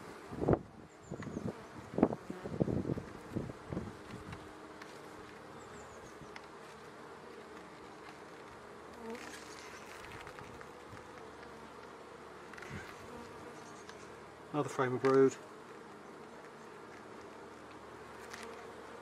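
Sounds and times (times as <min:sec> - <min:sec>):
bees buzzing: 0:00.0 - 0:19.0
faint scrapes of hive frame: 0:00.0 - 0:19.0.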